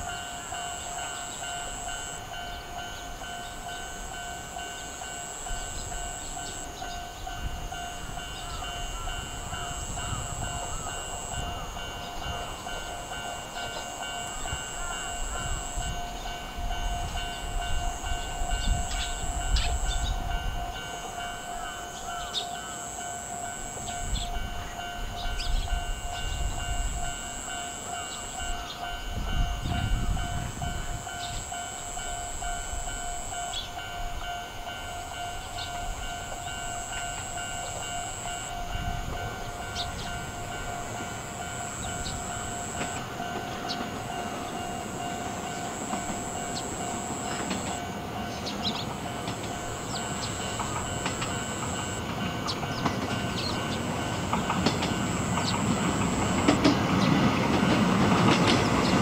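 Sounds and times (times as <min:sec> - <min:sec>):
level crossing alarm ringing: 0:00.0 - 0:59.0.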